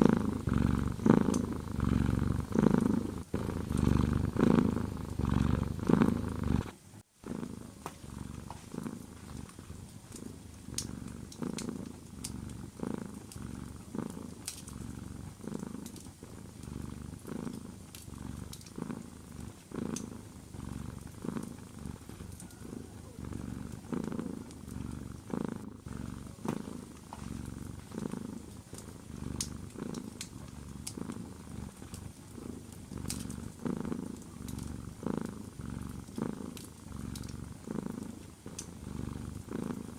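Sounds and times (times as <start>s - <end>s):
fireplace crackles: 0.0s - 6.8s, 7.6s - 39.5s
cat purring: 0.0s - 39.9s.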